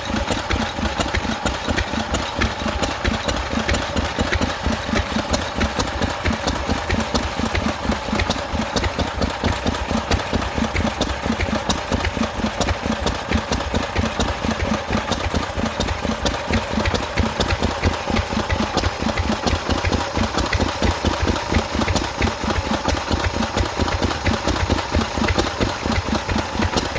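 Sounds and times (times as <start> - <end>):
stationary engine idling: 0.0 - 26.9.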